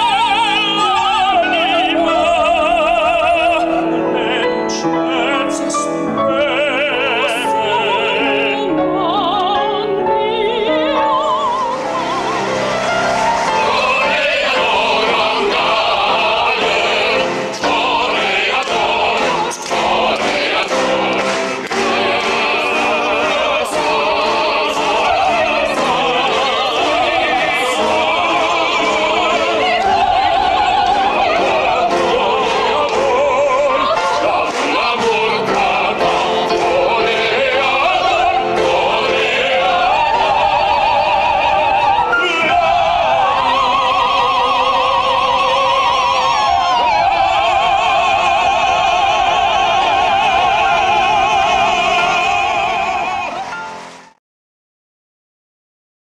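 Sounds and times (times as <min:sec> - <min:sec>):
instrumental accompaniment: 0:00.0 - 0:54.2
operatic voices singing: 0:00.0 - 0:54.2.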